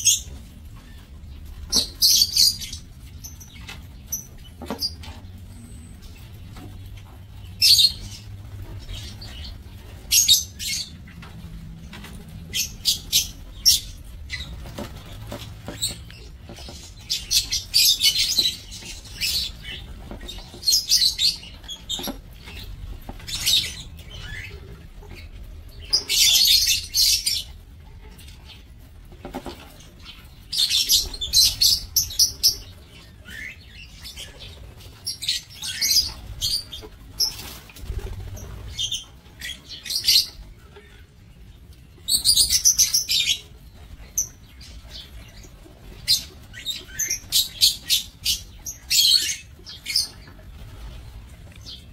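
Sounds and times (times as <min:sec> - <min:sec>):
birds chirping shrilly: 0:00.0 - 0:28.8, 0:29.6 - 0:51.9.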